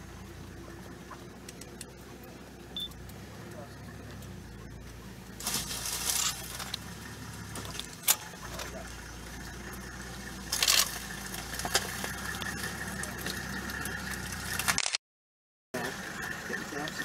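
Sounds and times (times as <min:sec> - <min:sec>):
vehicle engine idling: 0:00.0 - 0:14.8, 0:15.8 - 0:17.0.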